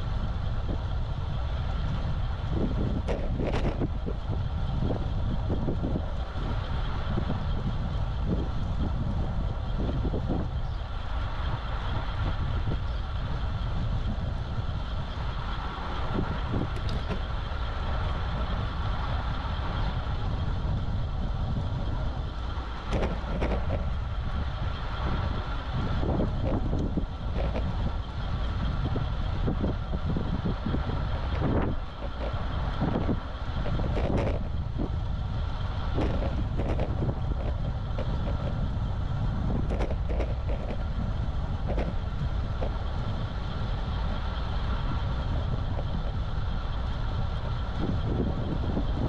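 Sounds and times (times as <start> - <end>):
bicycle tyre and road noise: 0.0 - 49.0
wind rumble on microphone: 0.0 - 49.0.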